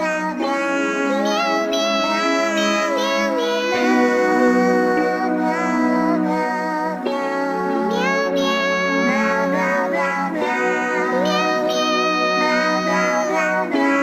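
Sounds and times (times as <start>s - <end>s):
synthesized childlike singing voice: 0.0s - 14.0s.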